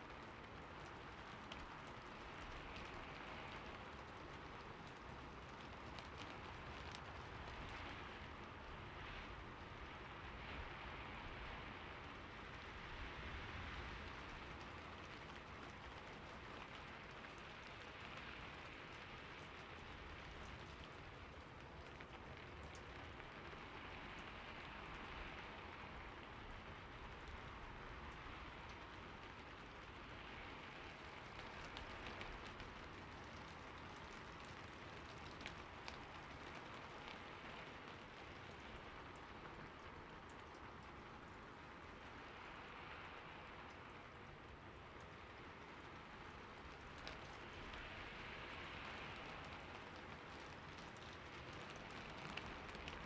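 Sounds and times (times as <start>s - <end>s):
rain on a roof: 0.0s - 53.0s
raindrop ticks: 0.0s - 53.0s.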